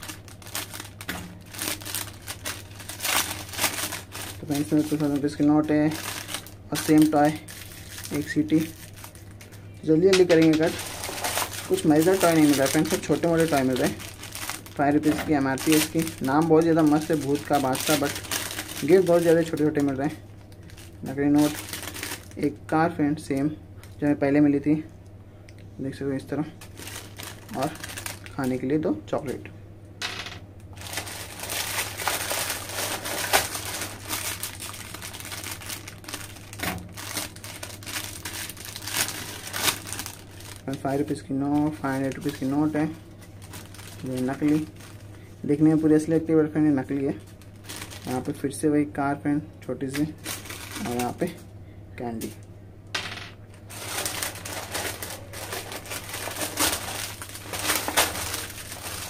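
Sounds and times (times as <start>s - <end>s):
plastic snack packet crinkling: 0.0s - 22.6s, 26.6s - 28.7s, 30.7s - 46.1s, 46.9s - 48.4s, 49.9s - 51.3s, 53.7s - 59.0s.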